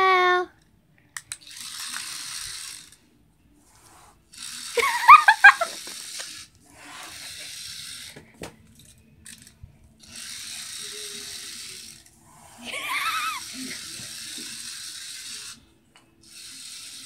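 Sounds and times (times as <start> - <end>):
small toy motor running: 1.3 - 3.0, 3.7 - 17.0.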